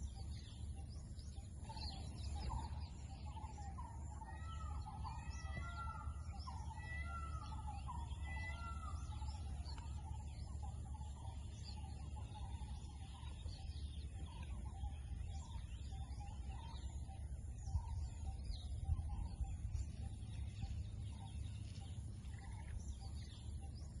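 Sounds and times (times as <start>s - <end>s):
birds calling and chirping: 0.0s - 24.0s
steady low rumble: 0.0s - 24.0s.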